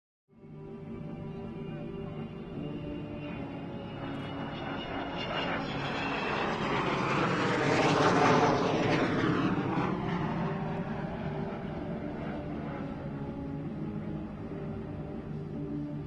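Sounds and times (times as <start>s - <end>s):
jet aircraft flying past: 0.4s - 16.0s.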